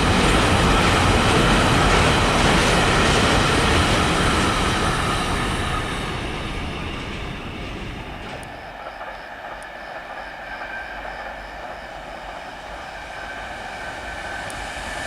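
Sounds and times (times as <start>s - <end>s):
freight train rumbling past: 0.0s - 15.0s
rail clatter: 0.0s - 15.0s.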